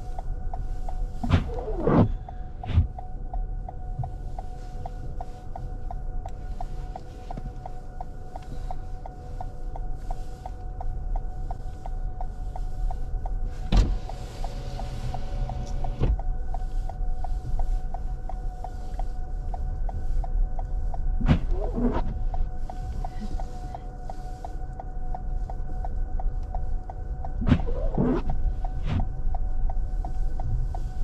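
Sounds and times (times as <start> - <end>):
faint pulsing tone: 0.0 - 31.0
hiss with thin whine: 0.0 - 31.0.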